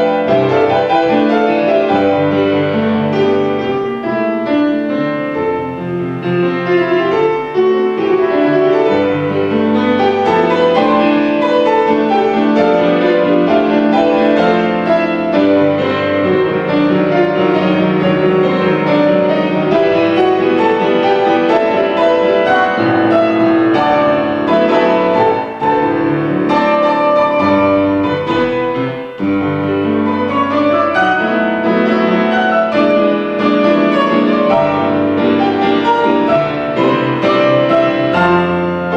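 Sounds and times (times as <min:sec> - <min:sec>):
piano piece with full chords: 0:00.0 - 0:38.9.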